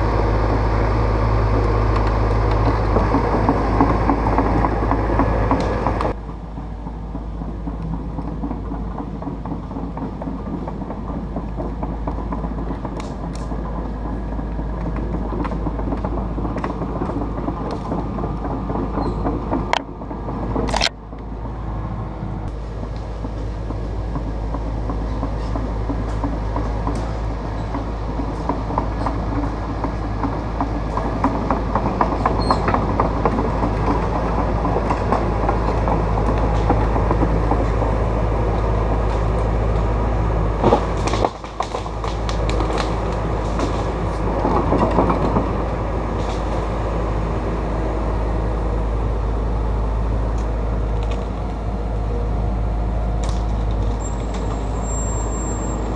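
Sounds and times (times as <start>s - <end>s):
excavator running: 0.0s - 55.9s.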